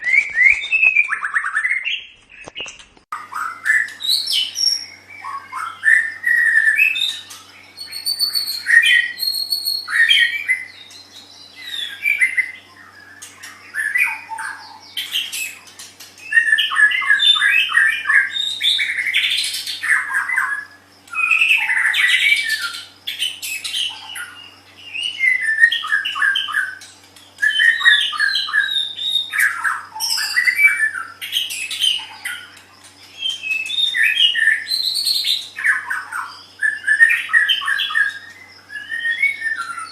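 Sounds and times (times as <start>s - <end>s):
songbird singing varied whistles: 3.2s - 15.6s, 16.2s - 26.8s, 27.4s - 32.5s, 33.1s - 39.9s.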